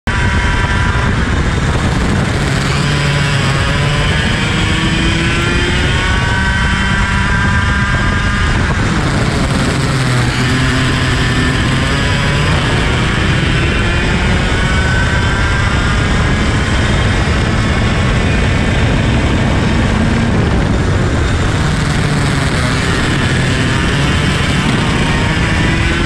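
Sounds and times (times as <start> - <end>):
wind noise: 0.0 - 26.0
kart engine revving: 0.1 - 26.0.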